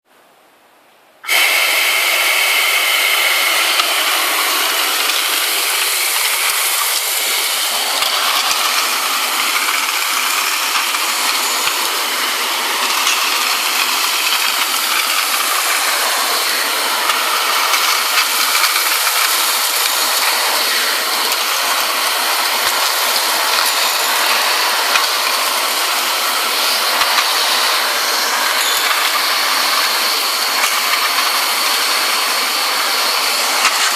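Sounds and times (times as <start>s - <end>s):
vacuum cleaner running: 1.2s - 33.9s.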